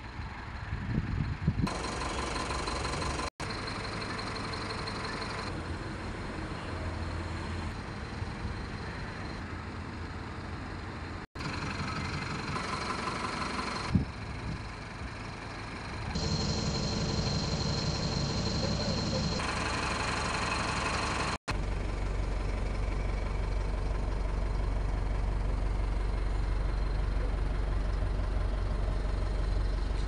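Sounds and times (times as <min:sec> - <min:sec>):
truck engine idling: 0:01.3 - 0:30.0.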